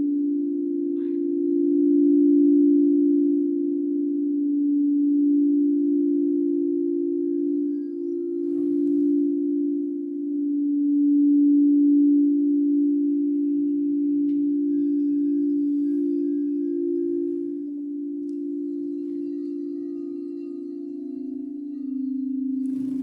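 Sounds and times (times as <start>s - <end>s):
high ringing overtones: 0.0s - 23.0s
singing bowls low tone: 0.0s - 23.0s.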